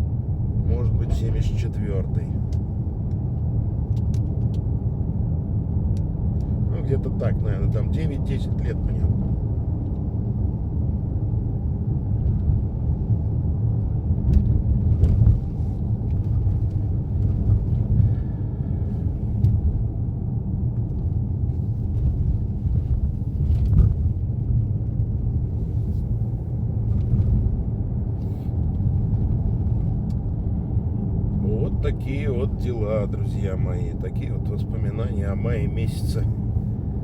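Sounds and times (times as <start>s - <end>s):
road and engine rumble: 0.0s - 37.0s.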